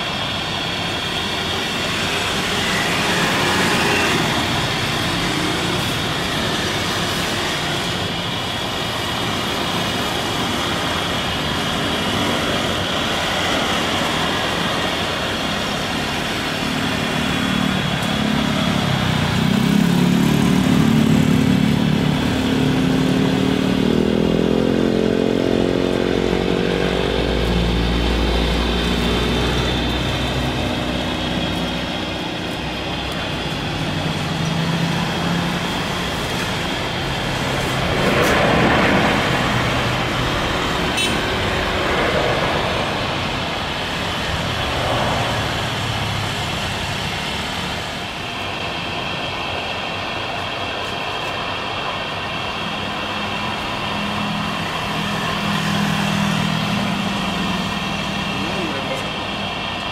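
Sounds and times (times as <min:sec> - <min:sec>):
jet engines roaring with whine: 0:00.0 - 0:59.9.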